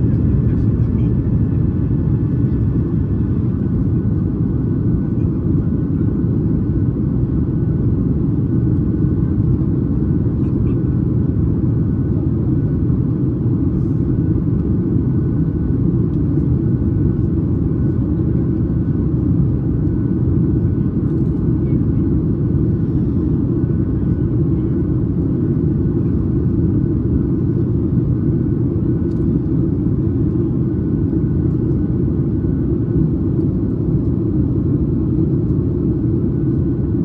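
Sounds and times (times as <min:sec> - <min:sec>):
airplane cabin engine rumble: 0:00.0 - 0:37.0.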